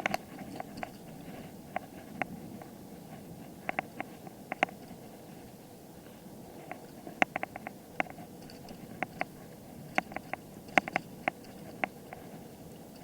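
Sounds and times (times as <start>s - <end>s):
bicycle rattling over bumps: 0.0s - 5.6s, 6.4s - 13.0s
faint rolling noise: 0.0s - 13.0s.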